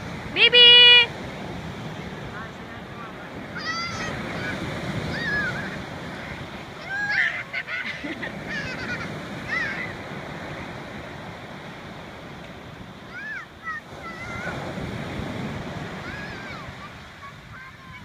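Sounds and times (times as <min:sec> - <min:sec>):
small waves breaking on shore: 0:00.0 - 0:18.0.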